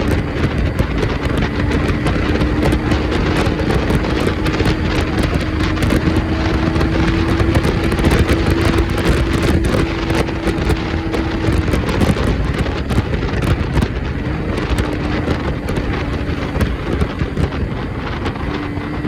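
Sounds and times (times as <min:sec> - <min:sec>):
steady droning hum: 0:00.0 - 0:19.0
wind buffeting microphone: 0:00.0 - 0:19.0.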